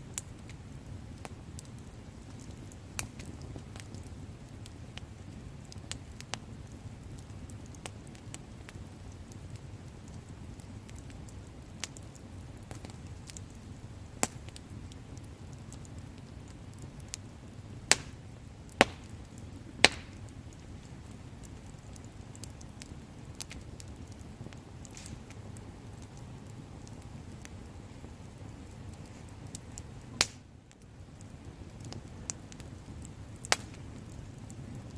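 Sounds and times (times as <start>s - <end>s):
low rustle of flames: 0.0s - 34.9s
sharp pops of burning wood: 0.0s - 34.9s
small crackles of fire: 0.0s - 34.9s.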